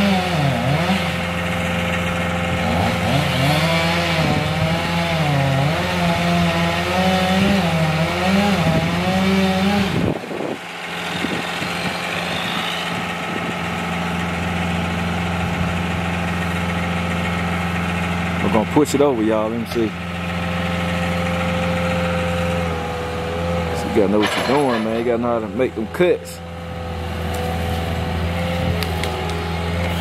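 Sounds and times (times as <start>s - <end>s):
chainsaw cutting wood: 0.0s - 19.0s, 20.2s - 30.0s
engine idling: 0.0s - 30.0s.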